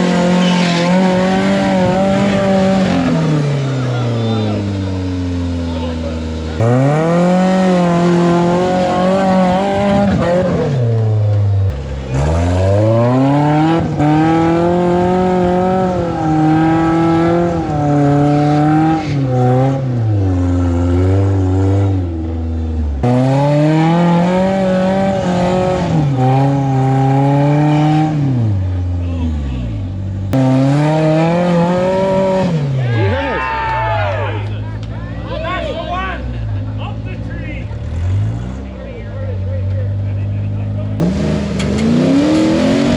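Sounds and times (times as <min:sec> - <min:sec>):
truck engine revving hard: 0:00.0 - 0:42.9.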